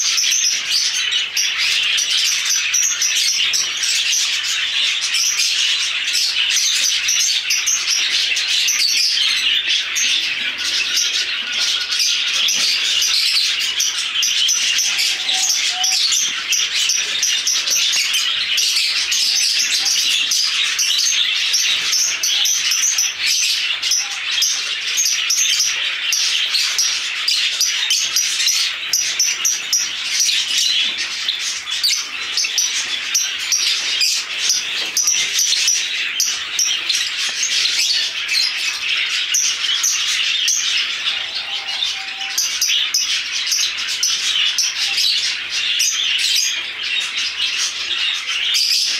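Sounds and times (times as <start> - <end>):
caged birds chirping: 0.0 - 48.9.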